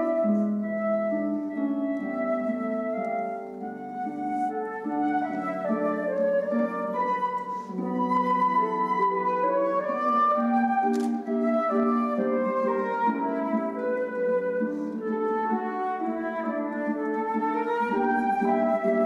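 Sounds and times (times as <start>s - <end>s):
flute melody: 0.0s - 19.0s.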